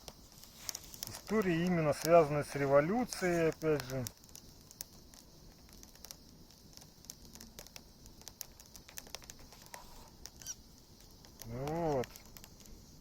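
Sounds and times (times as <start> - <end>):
campfire wood crackling: 0.0 - 13.0.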